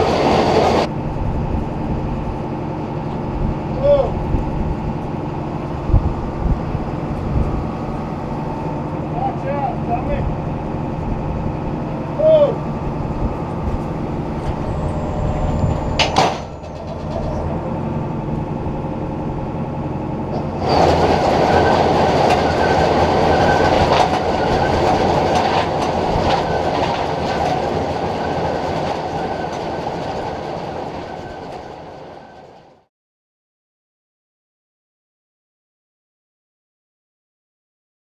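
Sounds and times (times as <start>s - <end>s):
tractor engine hum: 0.0s - 32.9s
baler mechanical rattle: 1.0s - 32.7s.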